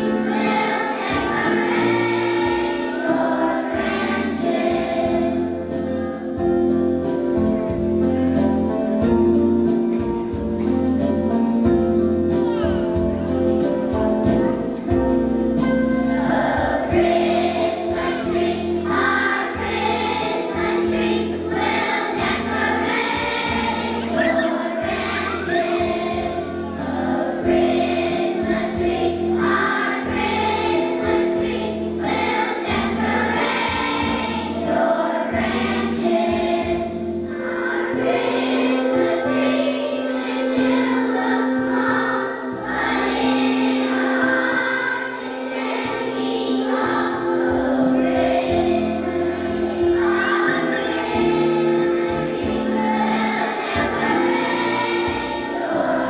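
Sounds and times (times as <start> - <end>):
children's choir singing: 0.0 - 56.0
instrumental accompaniment: 0.0 - 56.0.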